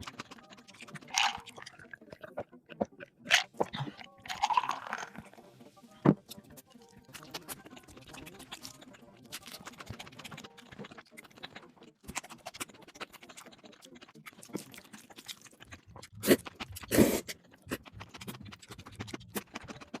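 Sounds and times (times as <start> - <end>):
wet chewing and smacking: 0.0 - 20.0.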